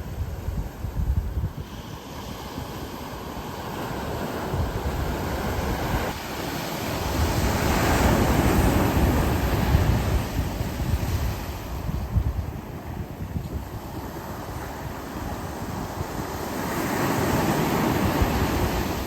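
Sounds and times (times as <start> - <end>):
ocean waves washing in: 0.0 - 19.0
wind buffeting microphone: 0.0 - 19.0.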